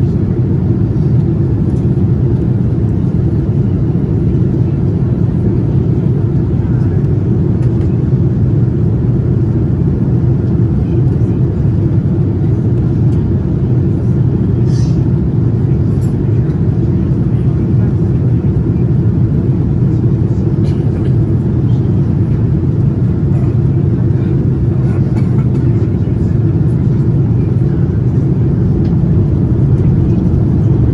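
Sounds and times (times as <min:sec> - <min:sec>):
jet engine roar in aircraft cabin: 0:00.0 - 0:30.9.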